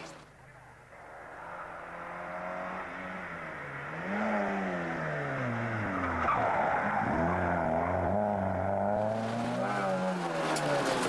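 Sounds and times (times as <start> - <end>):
rally car engine revving: 0.9 - 11.0.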